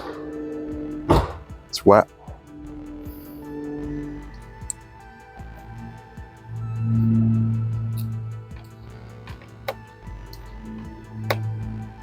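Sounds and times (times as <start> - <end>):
faint ticking beat: 0.0 - 12.0
soft background music: 0.0 - 12.0.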